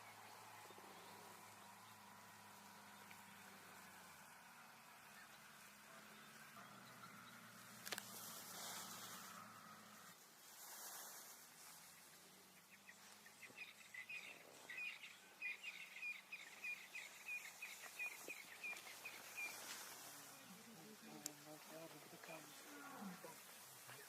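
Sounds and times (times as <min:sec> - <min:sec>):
faint outdoor hiss: 0:00.0 - 0:24.0.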